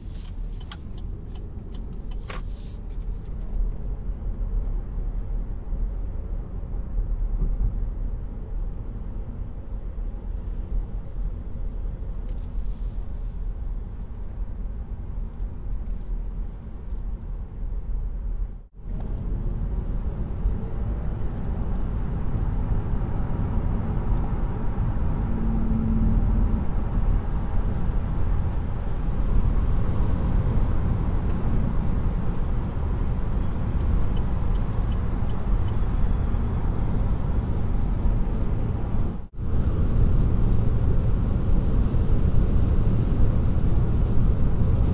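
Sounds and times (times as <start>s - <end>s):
tyre and road noise: 0.0s - 44.9s
wind: 0.0s - 44.9s.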